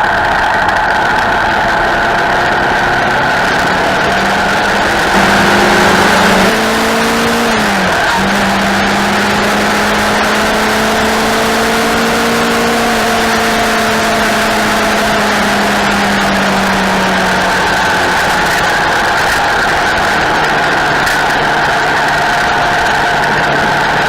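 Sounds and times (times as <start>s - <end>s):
racing motorcycle engine: 0.0s - 24.0s.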